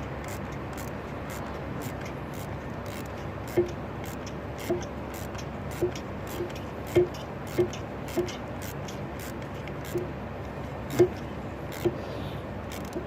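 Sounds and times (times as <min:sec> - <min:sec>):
steady low hum: 0:00.0 - 0:13.0
hand tool ratchet clicks: 0:00.2 - 0:10.1, 0:10.9 - 0:12.0, 0:12.7 - 0:13.0.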